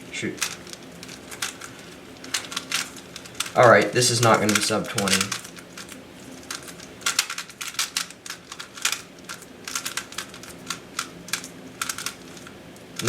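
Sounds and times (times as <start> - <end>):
puzzle cube clicking: 0.4 - 13.0.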